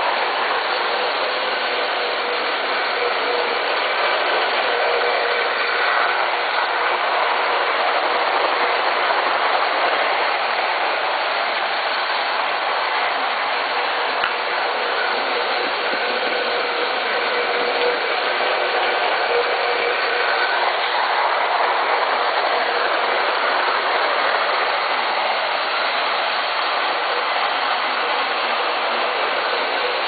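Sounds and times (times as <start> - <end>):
model train rumble and whir: 0.0 - 30.0.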